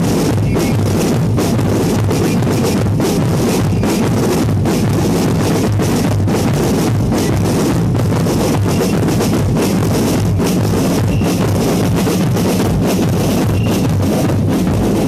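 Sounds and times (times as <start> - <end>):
drum kit beat: 0.0 - 15.0
heavy bass: 0.0 - 15.0
loud band music: 0.0 - 15.0.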